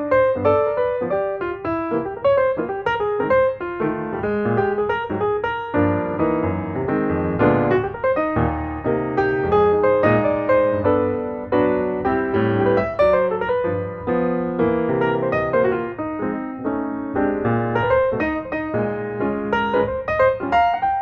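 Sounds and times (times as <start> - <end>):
piano playing quick runs: 0.0 - 21.0.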